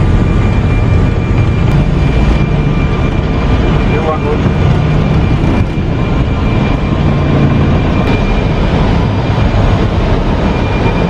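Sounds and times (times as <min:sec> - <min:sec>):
faint high steady tone: 0:00.0 - 0:11.0
jet engines rumbling: 0:00.0 - 0:11.0.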